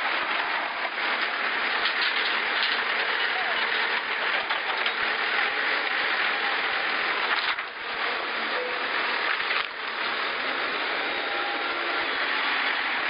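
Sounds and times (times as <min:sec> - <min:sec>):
wheel loader engine running: 0:00.0 - 0:13.0.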